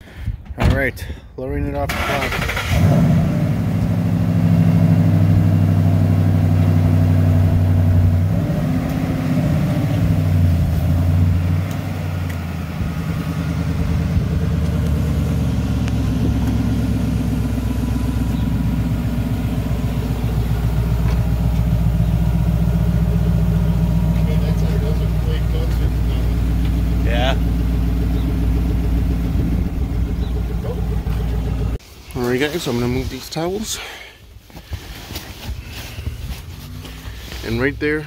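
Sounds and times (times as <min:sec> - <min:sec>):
car engine idling: 0:01.9 - 0:32.8.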